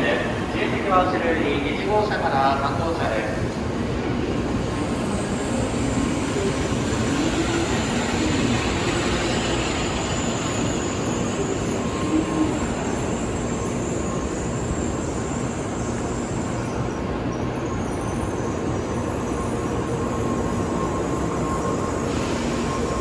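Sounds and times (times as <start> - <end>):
train rumbling at speed: 0.0 - 23.0.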